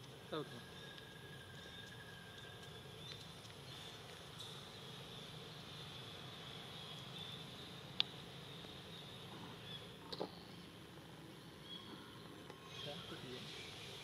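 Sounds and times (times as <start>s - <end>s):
insects droning: 0.0s - 14.0s
low outdoor background hum: 0.0s - 14.0s.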